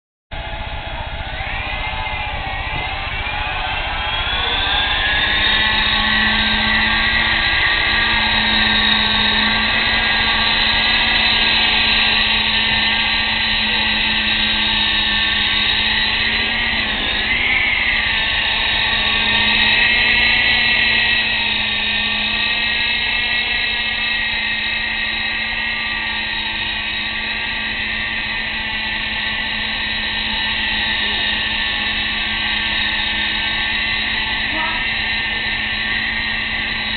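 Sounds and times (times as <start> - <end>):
rc helicopter rotors whining: 0.4 - 36.9.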